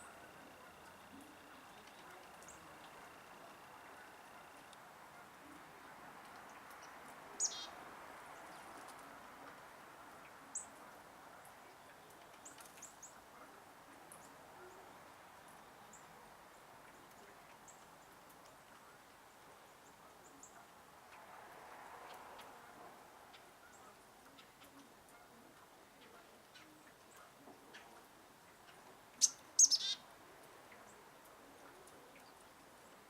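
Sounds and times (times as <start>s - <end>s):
faint steady background hiss: 0.0s - 33.0s
wild birds chirping: 0.0s - 33.0s.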